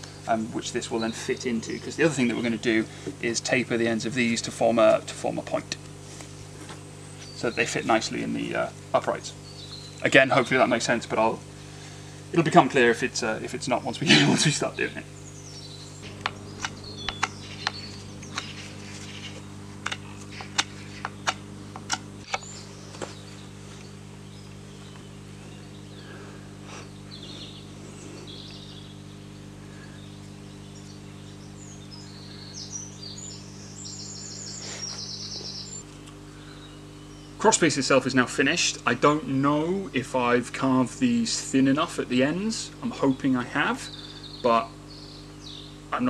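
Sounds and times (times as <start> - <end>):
small birds chirping: 0.0 - 46.0
steady low hum: 0.0 - 46.0.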